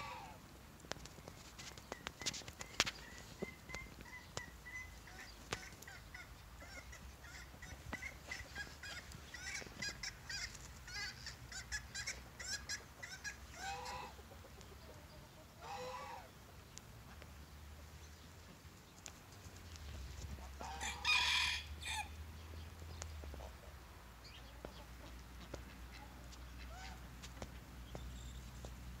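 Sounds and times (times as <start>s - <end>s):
high chirping poultry calls: 0.0s - 0.4s, 1.9s - 16.8s, 20.3s - 28.7s.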